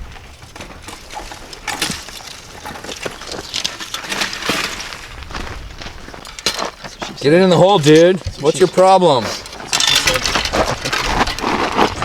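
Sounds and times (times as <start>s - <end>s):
people scraping over a fence: 0.0s - 12.0s.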